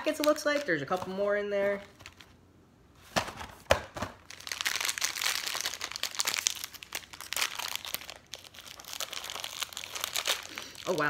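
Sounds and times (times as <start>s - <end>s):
plastic wrapper crinkling and tearing: 0.0s - 2.4s, 4.2s - 11.0s.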